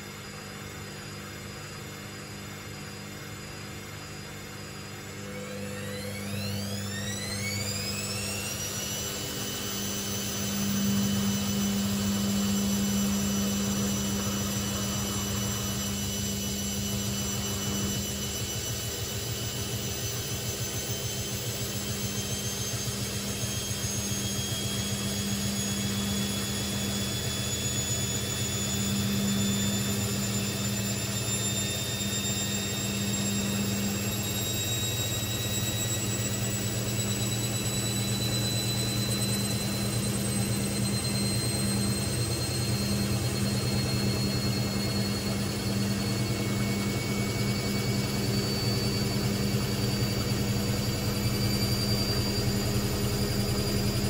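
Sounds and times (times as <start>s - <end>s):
washing machine motor whining: 0.0s - 54.0s.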